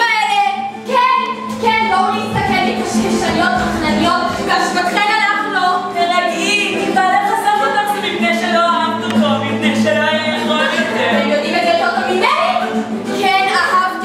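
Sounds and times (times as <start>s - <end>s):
women singing together: 0.8s - 9.0s, 10.9s - 14.0s.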